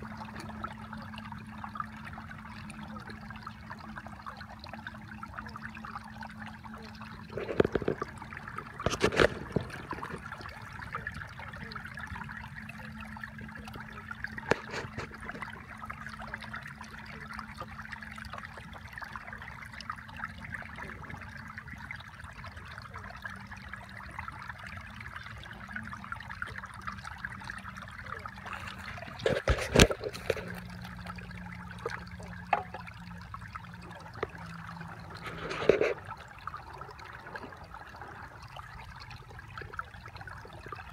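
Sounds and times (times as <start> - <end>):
low hum: 0.0 - 40.9
water trickling: 0.0 - 40.9.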